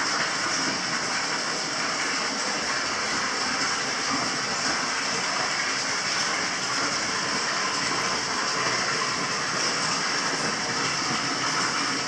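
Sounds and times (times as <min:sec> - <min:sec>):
water rushing into bath: 0:00.0 - 0:12.0.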